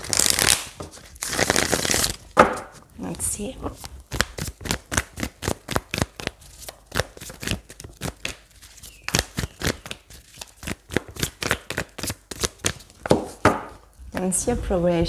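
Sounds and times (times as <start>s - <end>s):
cards being shuffled: 0.0s - 13.4s.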